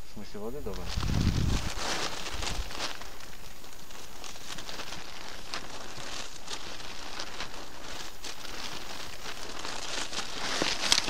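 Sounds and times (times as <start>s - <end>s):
dry reeds rustling and crackling: 0.2s - 11.0s.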